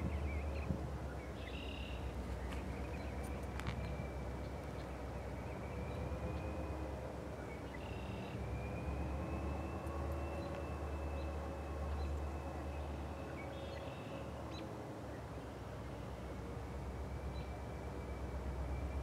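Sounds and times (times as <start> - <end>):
distant diesel locomotive rumble: 0.0 - 19.0.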